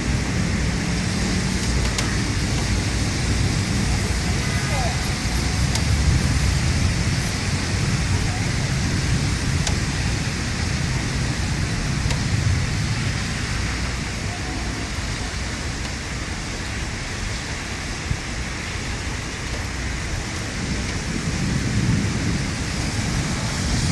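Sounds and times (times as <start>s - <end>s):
deep rumble: 0.0s - 23.9s
heavy rain pouring: 0.0s - 23.9s
sharp ticks of raindrops: 0.0s - 23.9s.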